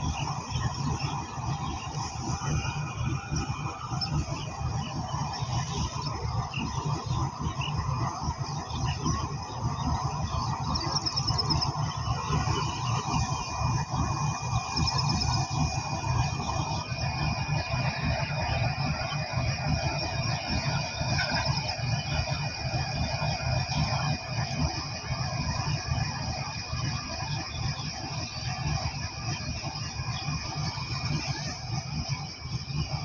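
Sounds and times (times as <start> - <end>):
locomotive engine idling: 0.0 - 33.0
thin high whine: 0.0 - 33.0.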